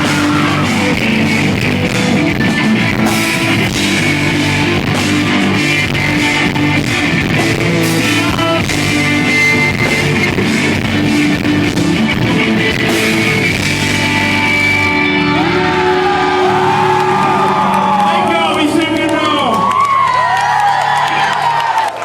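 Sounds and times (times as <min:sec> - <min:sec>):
drum kit: 0:00.0 - 0:19.7
held electric guitar notes: 0:00.0 - 0:19.8
live rock band: 0:00.0 - 0:21.6.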